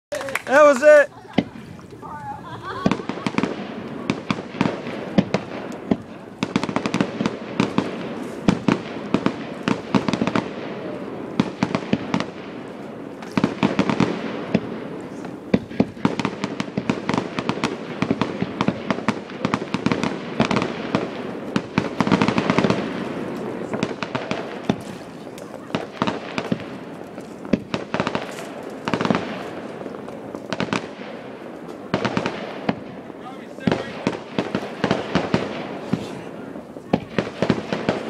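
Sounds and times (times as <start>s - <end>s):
fireworks bangs: 0.1s - 38.0s.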